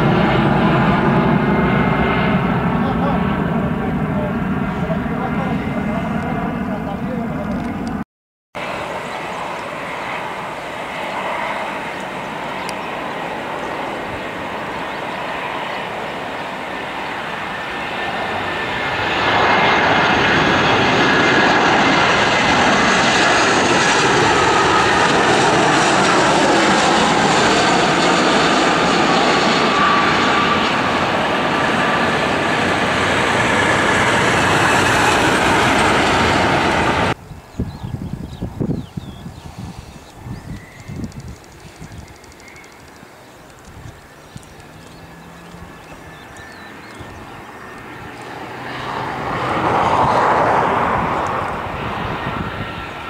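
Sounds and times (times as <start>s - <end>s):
jet engines rumbling whine: 0.0s - 8.0s, 8.6s - 53.0s.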